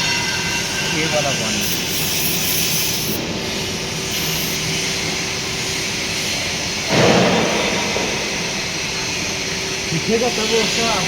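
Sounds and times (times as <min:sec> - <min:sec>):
loud burst of noise: 0:00.0 - 0:10.8
steady machinery noise: 0:00.0 - 0:11.0.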